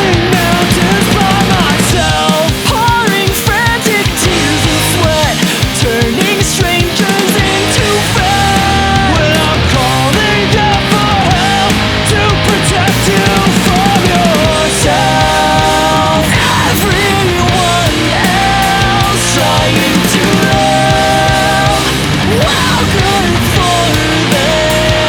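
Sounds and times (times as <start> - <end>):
punk rock with distorted guitars: 0.0 - 25.0.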